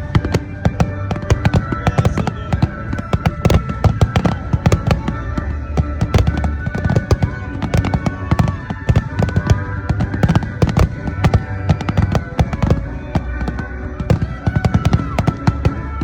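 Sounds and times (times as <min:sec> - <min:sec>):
fireworks bangs and crackling: 0:00.0 - 0:16.0
music playing: 0:00.0 - 0:16.0.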